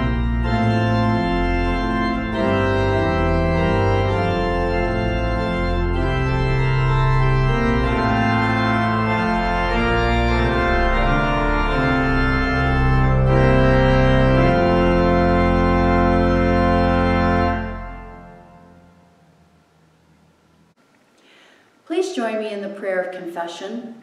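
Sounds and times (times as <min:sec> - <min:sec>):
organ playing chords: 0:00.0 - 0:20.1.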